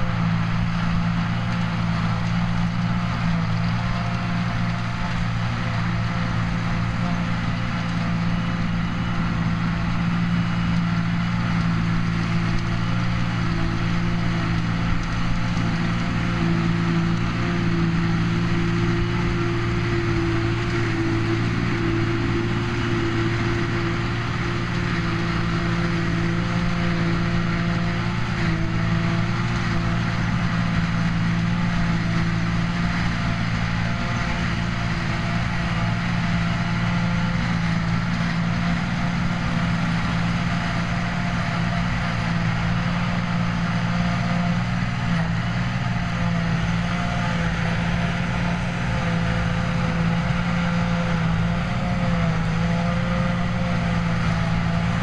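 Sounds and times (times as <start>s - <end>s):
machinery hum: 0.0s - 55.0s
tractor engine drone: 0.0s - 55.0s.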